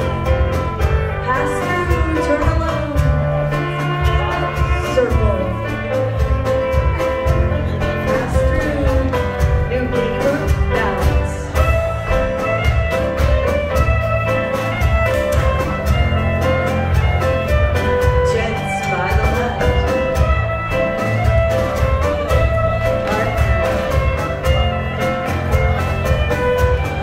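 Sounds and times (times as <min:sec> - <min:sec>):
string band playing dance tune: 0:00.0 - 0:27.0.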